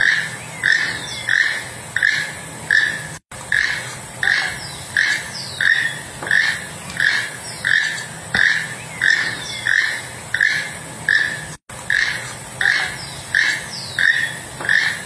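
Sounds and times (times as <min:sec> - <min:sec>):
toucan calling: 0:00.0 - 0:15.0.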